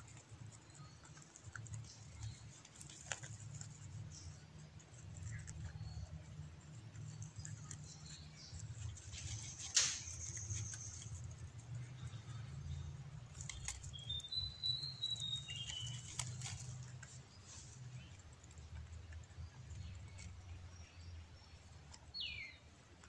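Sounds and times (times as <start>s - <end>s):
rabbit nibbling leaves: 0.0s - 23.0s.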